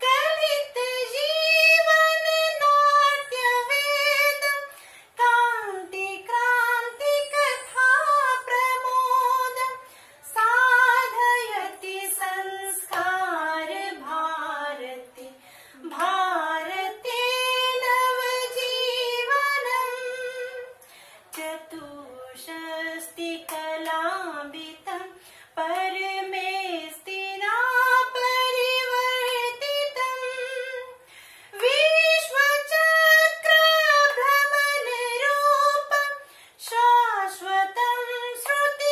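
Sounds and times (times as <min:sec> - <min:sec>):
woman singing unaccompanied: 0:00.0 - 0:38.9.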